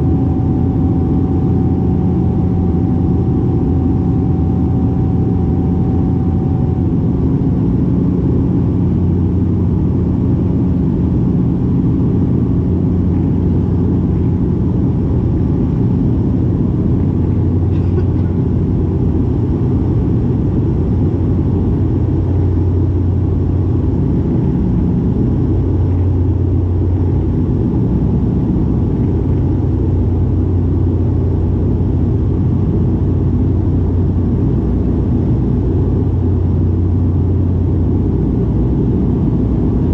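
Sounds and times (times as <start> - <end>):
turboprop engines droning in cabin: 0.0 - 39.9.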